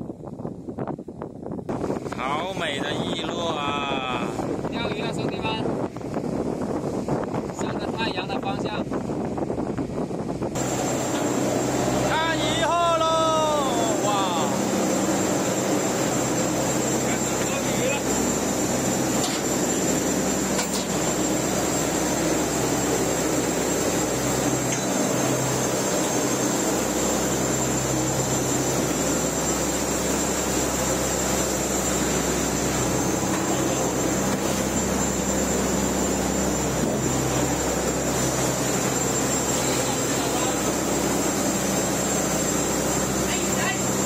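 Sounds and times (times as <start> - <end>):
high machinery whine: 0.0 - 44.0
boat engine drone: 1.6 - 44.0.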